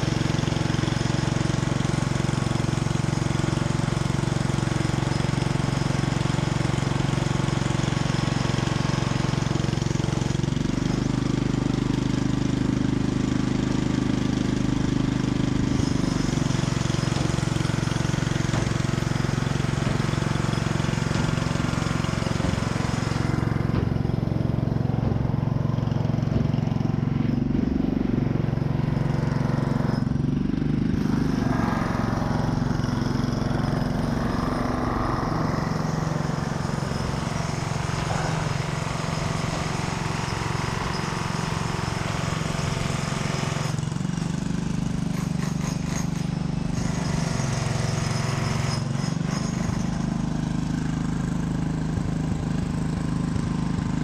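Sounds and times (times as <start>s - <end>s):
motor engine droning: 0.0s - 54.0s.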